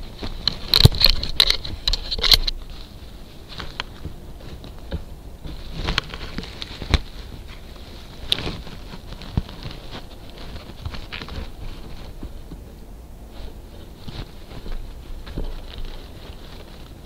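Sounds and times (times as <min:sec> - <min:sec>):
fur rubbing on camera housing: 0:00.0 - 0:17.0
paws tapping and scratching: 0:00.0 - 0:17.0.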